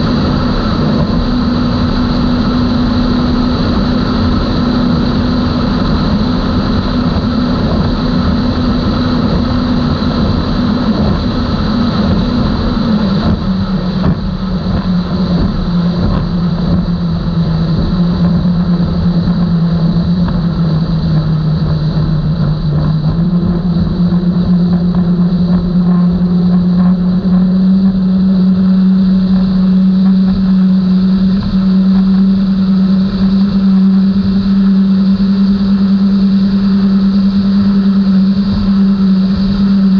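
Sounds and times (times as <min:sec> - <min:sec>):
outboard motors running: 0:00.0 - 0:39.9.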